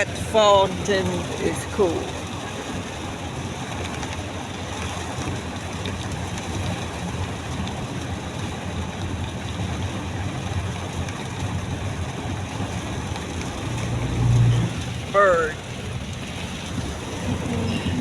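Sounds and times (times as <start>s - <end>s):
engine and road noise rumble: 0.0s - 18.0s
heavy rain drumming on car: 0.0s - 18.0s.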